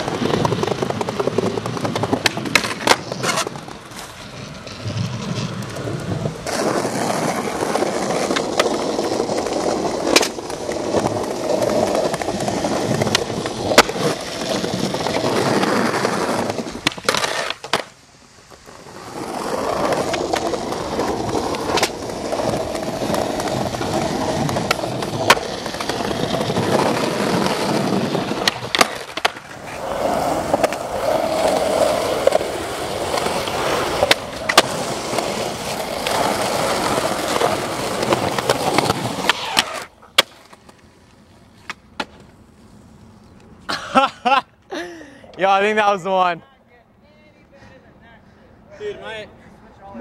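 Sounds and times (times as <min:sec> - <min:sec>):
skateboard clacks: 0:00.0 - 0:42.4
skateboard wheels rolling on concrete: 0:00.0 - 0:50.0.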